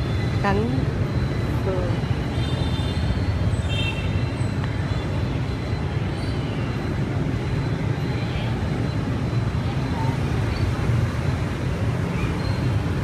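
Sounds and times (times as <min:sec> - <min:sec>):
street background rumble: 0:00.0 - 0:13.0.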